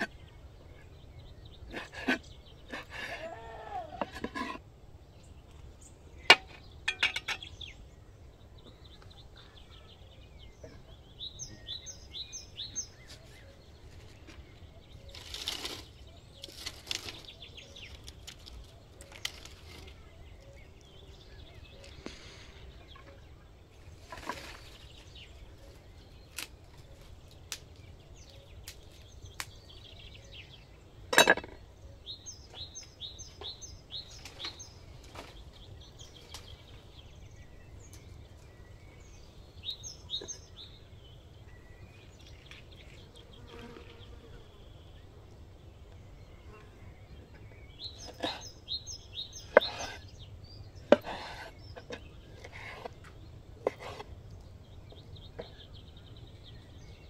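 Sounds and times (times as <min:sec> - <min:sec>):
small bird singing: 0:00.0 - 0:57.0.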